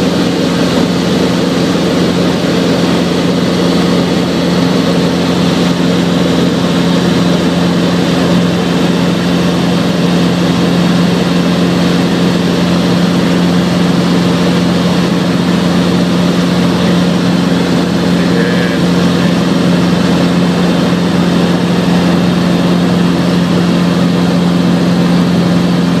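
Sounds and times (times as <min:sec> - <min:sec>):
helicopter engine and rotors drone: 0:00.0 - 0:26.0.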